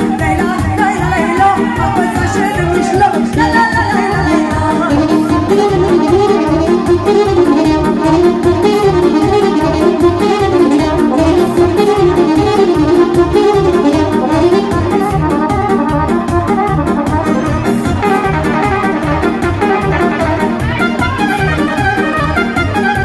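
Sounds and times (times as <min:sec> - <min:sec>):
quick steady bass beat: 0:00.0 - 0:23.0
saxophone fast melody: 0:00.0 - 0:23.0.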